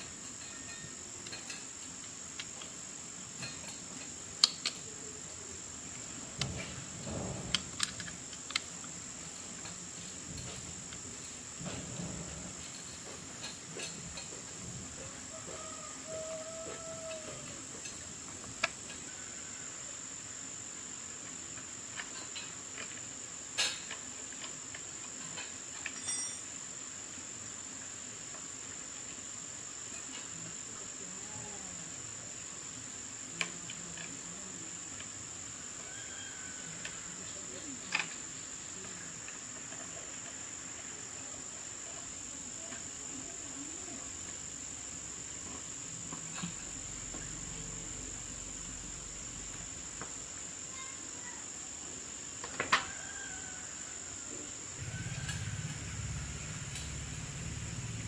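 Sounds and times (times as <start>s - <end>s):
high-pitched insect trill: 0.0s - 58.0s.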